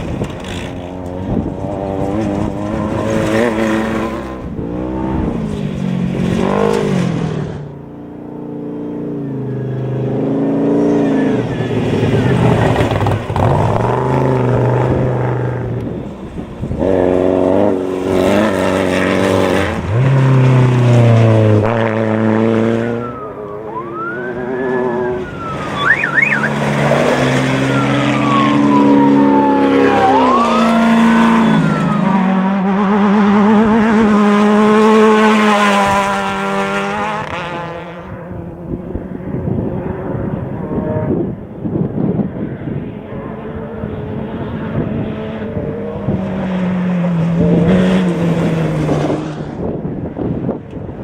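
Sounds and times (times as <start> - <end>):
race engines revving hard: 0.0 - 7.8, 9.7 - 41.4, 43.3 - 49.8.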